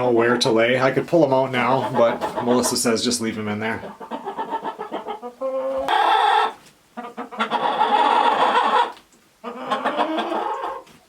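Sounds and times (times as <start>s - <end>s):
chickens calling loudly: 0.0s - 11.0s.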